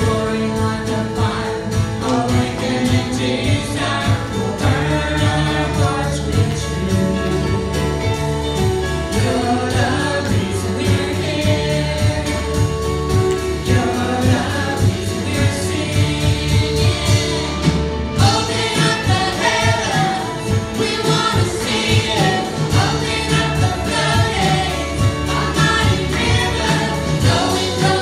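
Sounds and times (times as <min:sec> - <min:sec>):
lead and backing singers: 0:00.0 - 0:28.0
steady drum beat: 0:00.0 - 0:28.0
worship band playing gospel song: 0:00.0 - 0:28.0.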